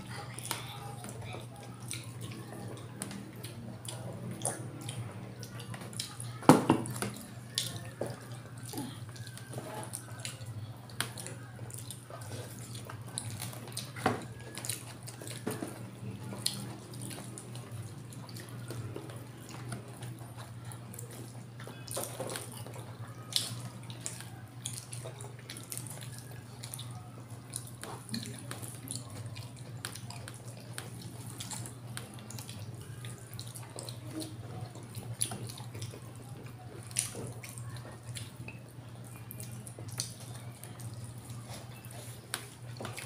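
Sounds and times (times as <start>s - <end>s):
wet chewing and lip smacking: 0.0s - 43.0s.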